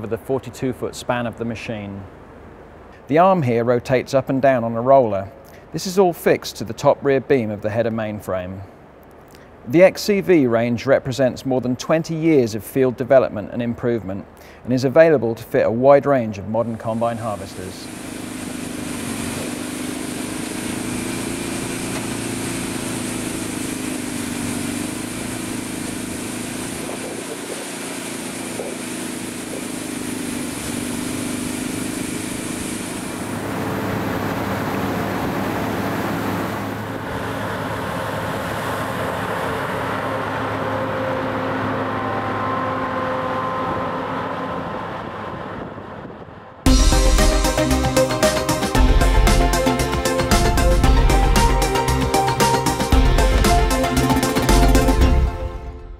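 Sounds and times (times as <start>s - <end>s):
combine harvester engine hum: 0.0s - 55.9s.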